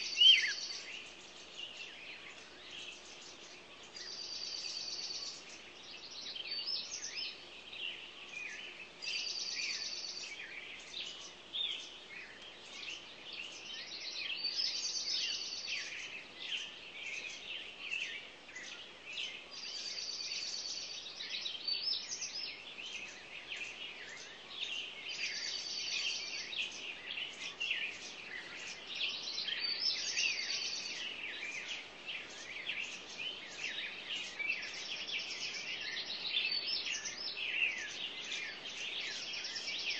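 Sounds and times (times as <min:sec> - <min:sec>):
bird trilling song: 0:00.0 - 0:39.9
cage birds chirping: 0:00.0 - 0:39.9.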